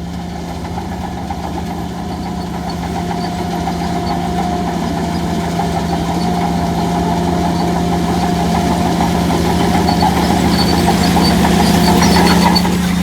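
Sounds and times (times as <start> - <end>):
heavy diesel engine running: 0.0 - 13.0
rattling clatter: 0.0 - 13.0
squeaky metallic clatter: 0.0 - 13.0.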